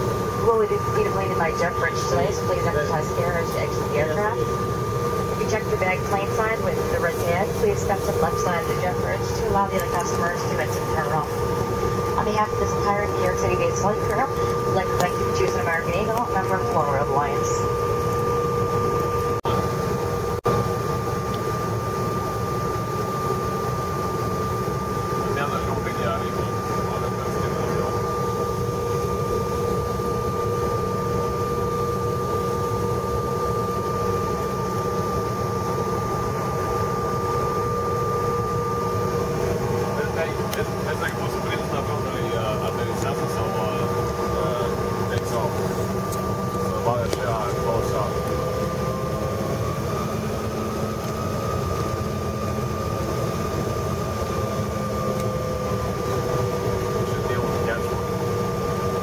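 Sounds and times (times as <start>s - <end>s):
jet cabin rumble and hiss: 0.0s - 19.8s, 25.2s - 54.3s, 55.0s - 58.9s
steady whining tones: 0.0s - 59.0s.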